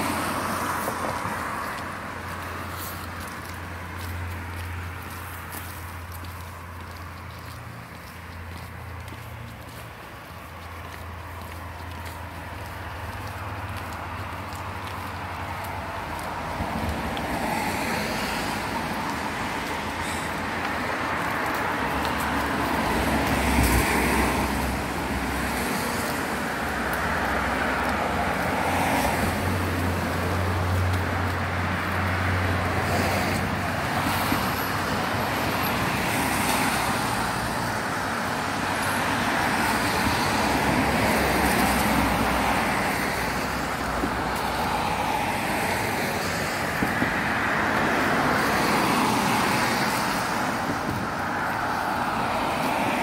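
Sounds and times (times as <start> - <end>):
cars passing with tyre noise: 0.0 - 53.0.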